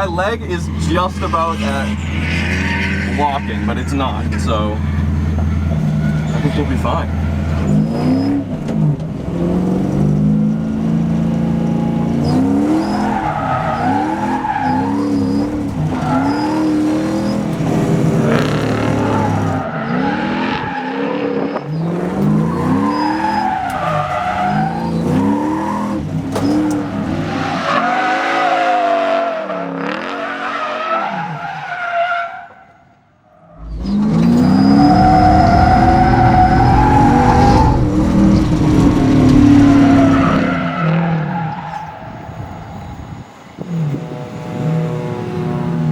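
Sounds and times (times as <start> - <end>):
tyres squealing: 0.0 - 8.9, 9.8 - 43.1
car engine revving: 0.0 - 31.5, 32.3 - 45.9.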